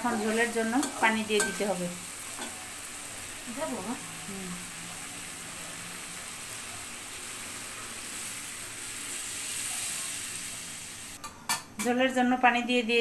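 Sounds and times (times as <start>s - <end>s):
curry sizzling in a pan: 0.0s - 11.8s.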